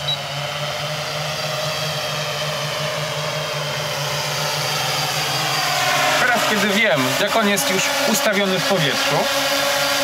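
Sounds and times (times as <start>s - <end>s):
drone propellers buzzing: 0.0s - 10.0s.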